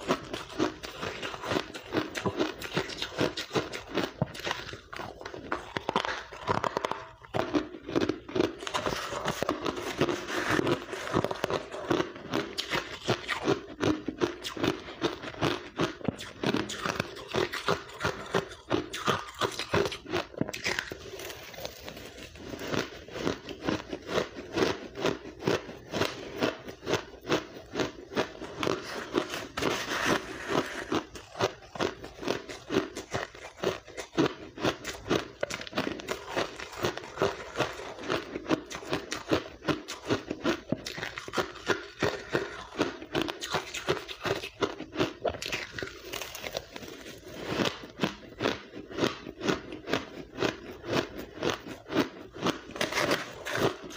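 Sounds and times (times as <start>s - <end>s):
chewing crushed ice: 0.0s - 53.9s.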